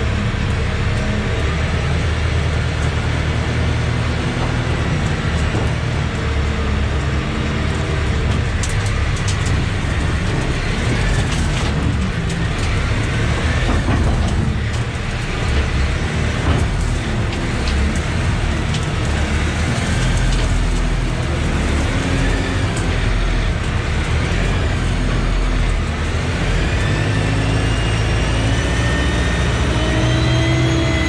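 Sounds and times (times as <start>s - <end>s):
vehicle engine running: 0.0s - 29.4s.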